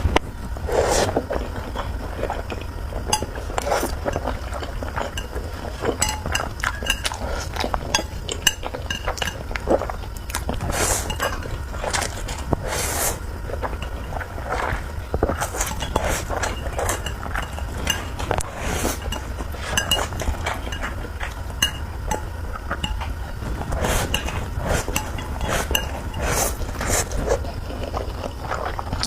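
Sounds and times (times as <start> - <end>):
noodle eating: 0.0 - 29.0
steady low hum: 0.0 - 29.0
utensils clinking against a bowl: 1.8 - 29.0.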